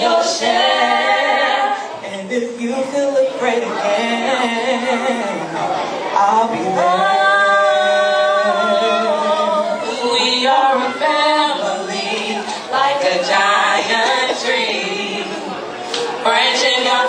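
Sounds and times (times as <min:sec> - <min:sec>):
women singing a cappella: 0:00.0 - 0:17.0.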